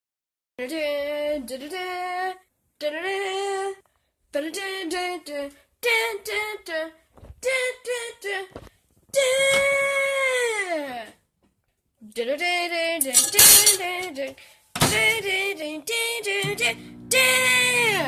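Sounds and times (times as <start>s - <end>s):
woman singing unaccompanied: 0.6s - 11.2s, 12.0s - 18.0s.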